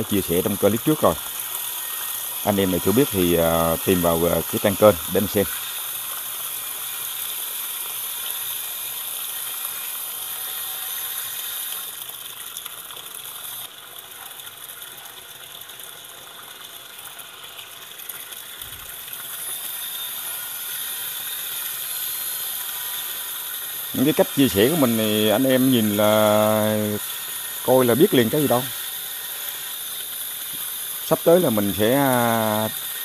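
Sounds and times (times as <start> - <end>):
water pouring into washing machine drum: 0.0 - 10.4, 11.4 - 33.0.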